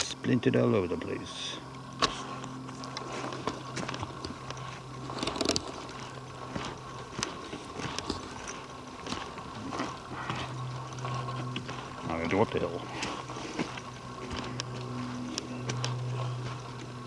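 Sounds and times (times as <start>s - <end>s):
faint steady hum: 0.0s - 17.0s
footsteps on dry leaves and twigs: 1.8s - 17.0s.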